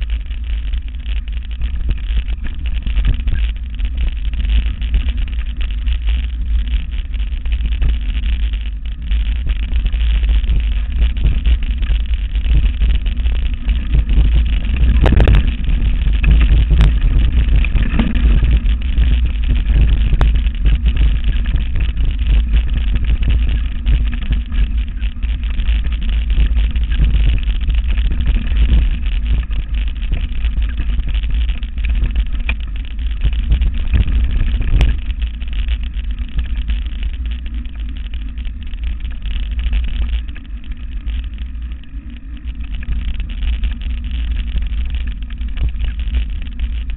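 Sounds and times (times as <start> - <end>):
bike rolling over dirt trail: 0.0 - 46.9
wind buffeting microphone: 0.0 - 46.9.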